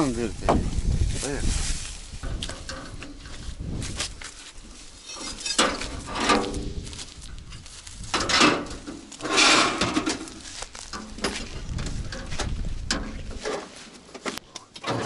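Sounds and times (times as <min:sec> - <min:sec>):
rustles and scrapes: 0:00.0 - 0:15.0.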